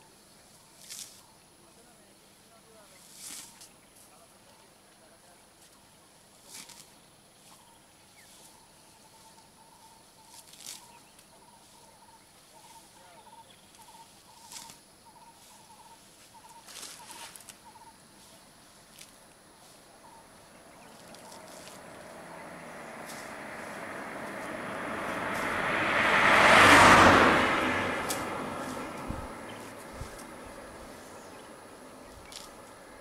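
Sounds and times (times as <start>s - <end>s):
rustling: 0.4s - 1.3s, 2.9s - 4.2s, 5.5s - 13.0s, 13.6s - 25.6s, 27.8s - 33.0s.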